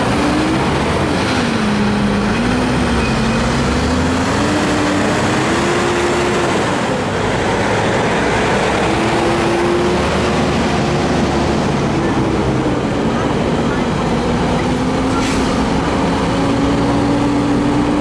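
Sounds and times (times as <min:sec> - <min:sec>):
diesel trucks passing: 0:00.0 - 0:18.0.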